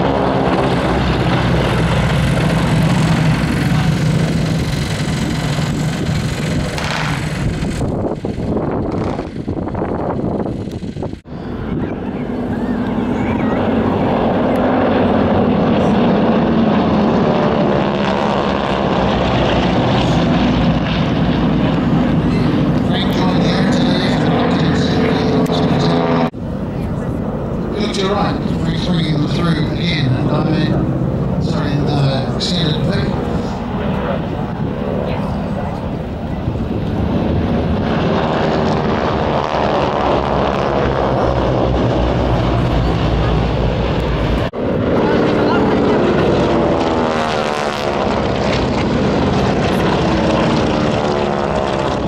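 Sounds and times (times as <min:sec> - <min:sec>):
propeller aircraft engine: 0:00.0 - 0:52.0.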